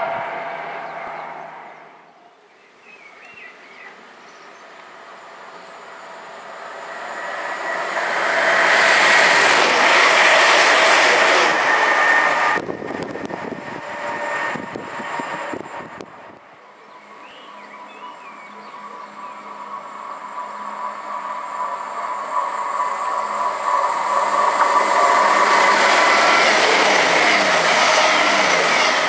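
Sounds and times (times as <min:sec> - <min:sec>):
high steady whine: 0:00.0 - 0:02.3, 0:04.8 - 0:29.0
electric train passing: 0:00.0 - 0:29.0
wheels rattling on rail: 0:04.2 - 0:29.0.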